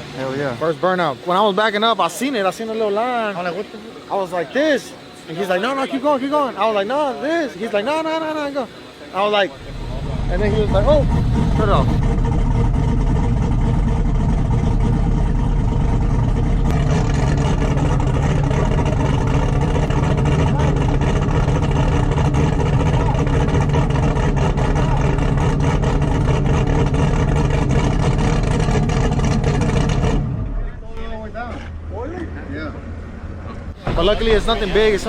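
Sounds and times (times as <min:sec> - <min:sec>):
vehicle engine idling: 0:02.5 - 0:35.0.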